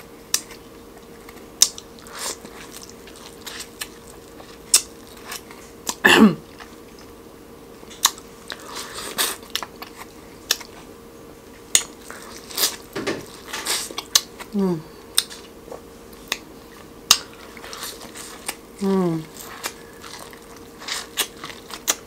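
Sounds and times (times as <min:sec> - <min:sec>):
wet chewing: 0:00.3 - 0:07.2, 0:07.8 - 0:10.9, 0:11.5 - 0:22.0.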